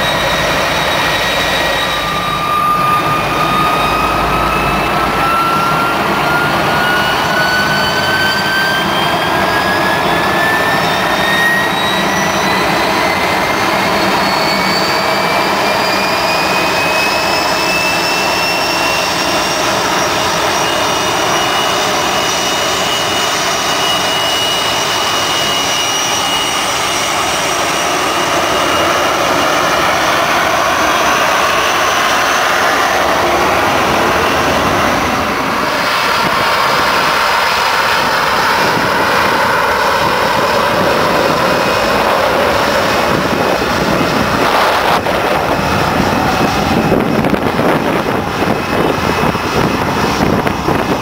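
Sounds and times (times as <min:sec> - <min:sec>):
jet engine high whine: 0:00.0 - 0:51.0
jet engine running: 0:00.0 - 0:51.0.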